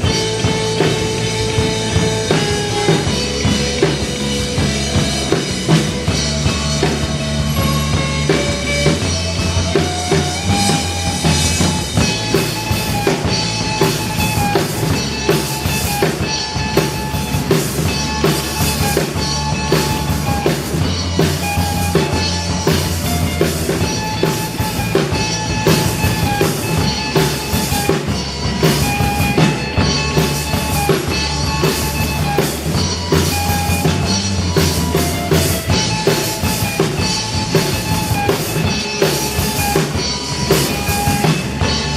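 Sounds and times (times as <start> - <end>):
drum kit beat: 0.0 - 41.9
rock band playing: 0.0 - 41.9.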